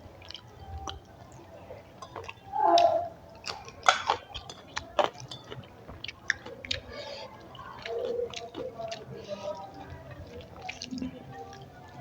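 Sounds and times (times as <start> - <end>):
mouth chewing food: 0.2 - 1.1, 2.0 - 12.0.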